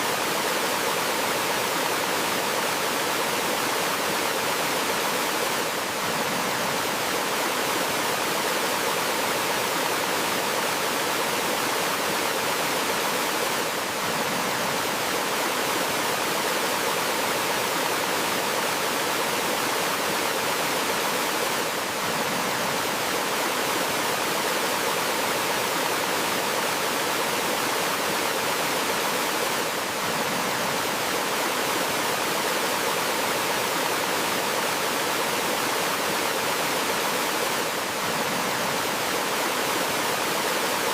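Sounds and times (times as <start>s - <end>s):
flowing water of waterfall: 0.0s - 40.9s.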